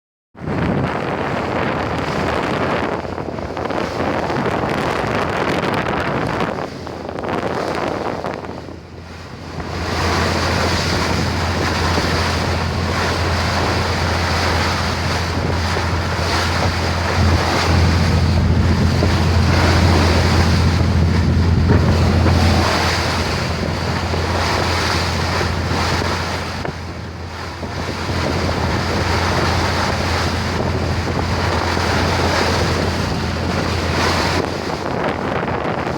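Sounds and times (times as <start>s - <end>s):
boat engine droning: 0.4s - 35.9s
wind buffeting microphone: 0.4s - 35.9s
rushing water: 1.2s - 35.9s.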